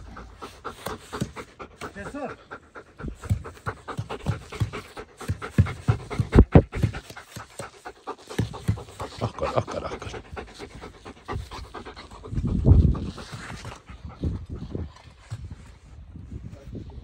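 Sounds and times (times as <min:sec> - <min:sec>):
dog panting: 0:00.0 - 0:16.1.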